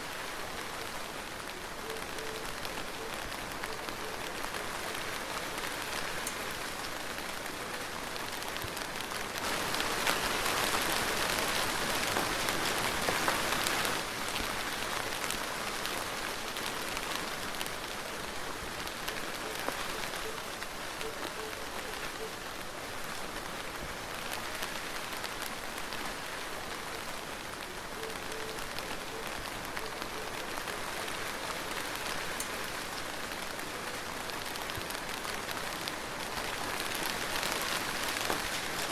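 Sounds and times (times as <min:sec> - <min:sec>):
soft rain falling: 0:00.0 - 0:38.9
raindrops ticking: 0:00.4 - 0:38.9.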